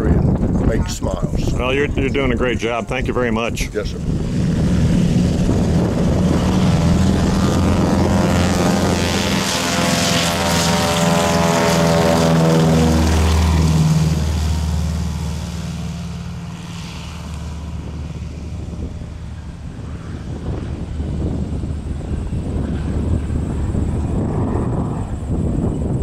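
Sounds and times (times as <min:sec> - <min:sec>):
propeller plane passing by: 0:01.2 - 0:26.0.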